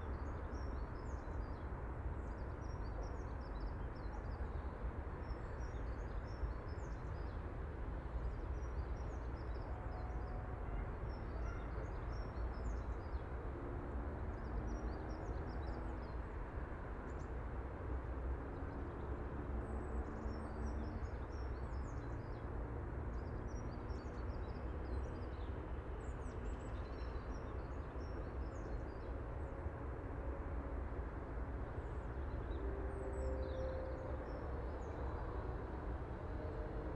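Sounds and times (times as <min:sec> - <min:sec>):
distant traffic hum: 0:04.2 - 0:36.9.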